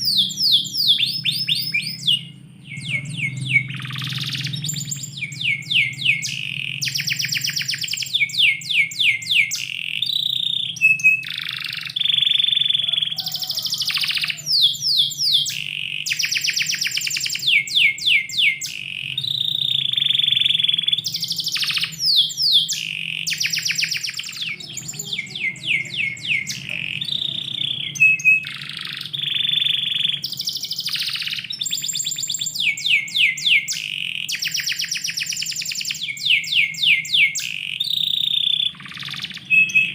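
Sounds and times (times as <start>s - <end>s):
faint low hum: 0.0s - 33.4s
canary singing: 0.0s - 39.9s.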